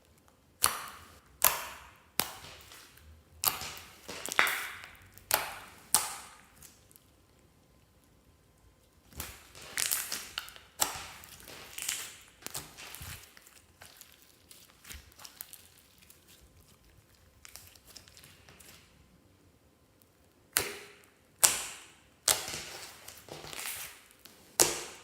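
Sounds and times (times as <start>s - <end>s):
slime squishing by hand: 0.0s - 19.1s, 20.0s - 25.0s.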